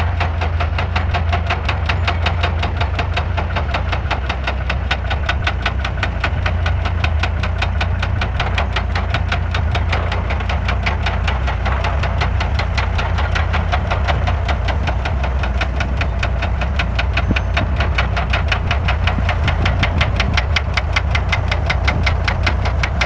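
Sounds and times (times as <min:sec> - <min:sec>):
bulldozer diesel engine rumbling: 0:00.0 - 0:23.0
rapid metallic clatter: 0:00.0 - 0:23.0.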